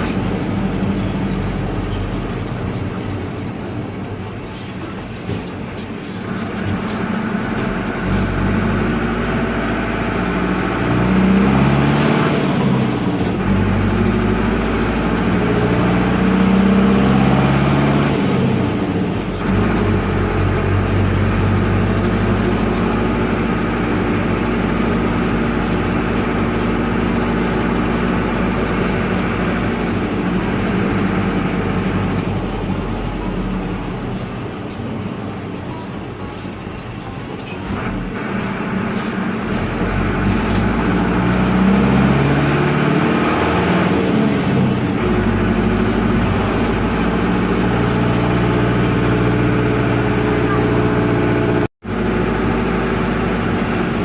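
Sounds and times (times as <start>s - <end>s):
diesel minibus engine revving: 0.0s - 54.0s.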